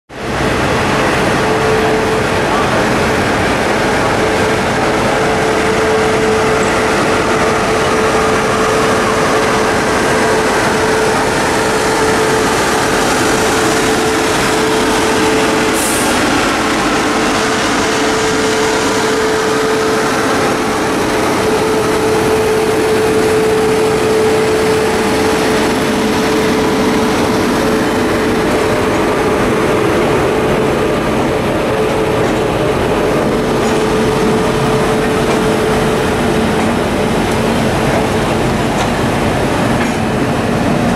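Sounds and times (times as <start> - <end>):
electric locomotive running: 0.1 - 40.9.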